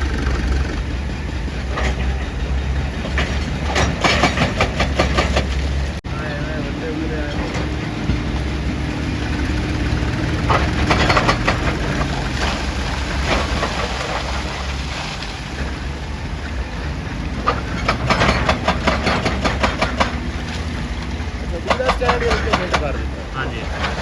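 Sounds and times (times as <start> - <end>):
rapid clattering and cracking: 0.0 - 6.0, 6.8 - 24.0
excavator diesel engine running: 0.0 - 24.0.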